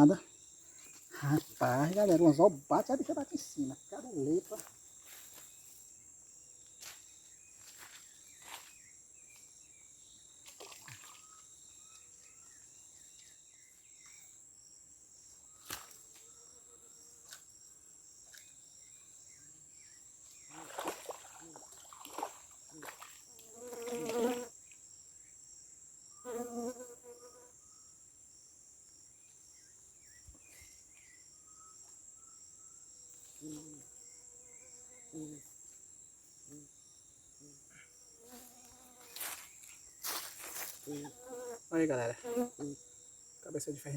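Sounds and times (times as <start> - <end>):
insect chorus: 0.0 - 43.9.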